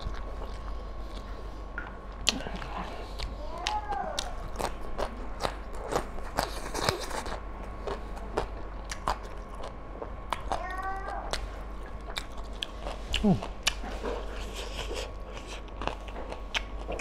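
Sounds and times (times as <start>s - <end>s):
wet chewing and lip smacking: 0.0s - 10.6s, 11.2s - 17.0s.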